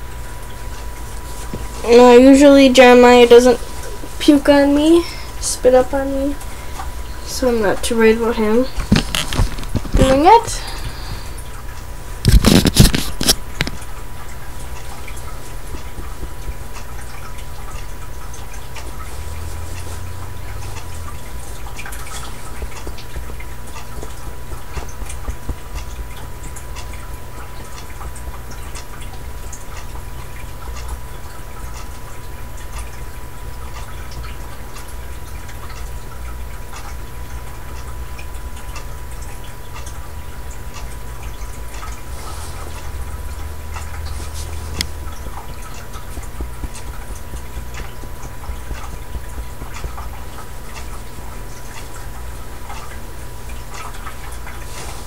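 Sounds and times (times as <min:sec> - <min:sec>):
faint ticks and taps: 0:00.0 - 0:55.0
low electrical hum: 0:00.0 - 0:55.0.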